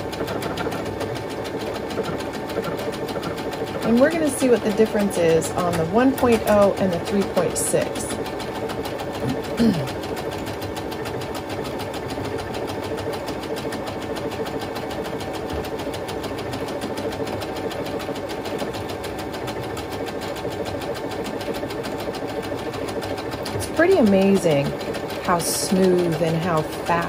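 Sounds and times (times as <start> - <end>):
sewing machine stitching: 0.0 - 27.0.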